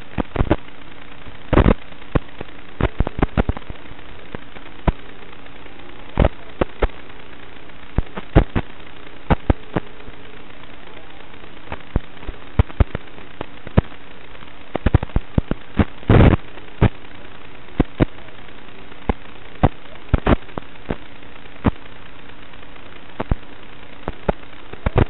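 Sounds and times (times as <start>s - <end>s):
faint hum: 0.0s - 25.0s
receiver static hiss: 0.0s - 25.0s
sharp clicks and pops: 0.0s - 25.0s.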